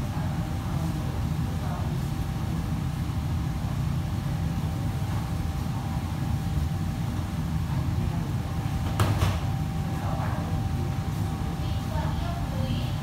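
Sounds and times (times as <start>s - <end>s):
low machine rumble: 0.0s - 13.0s
thin steady hum: 0.0s - 13.0s.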